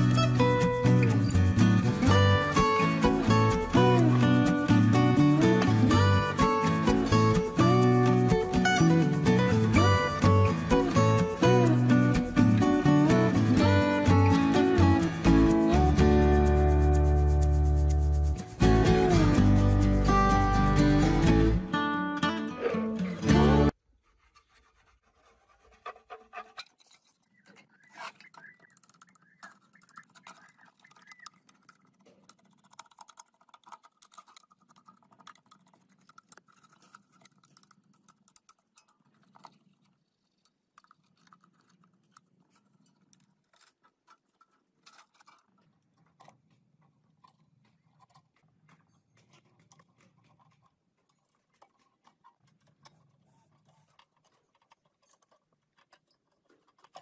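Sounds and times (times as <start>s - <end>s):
faint clicks and scratches: 0.0s - 21.3s, 23.7s - 57.0s.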